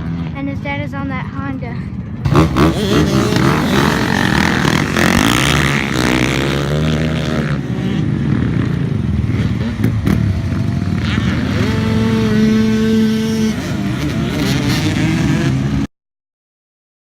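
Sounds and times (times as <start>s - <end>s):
dirt bike engines revving: 0.0s - 15.9s.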